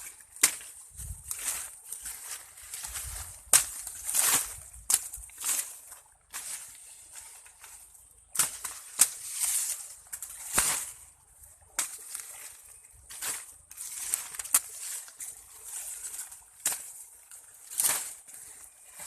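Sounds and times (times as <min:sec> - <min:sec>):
corn ears snapping: 0:00.0 - 0:19.0
corn leaves rustling: 0:00.0 - 0:19.0.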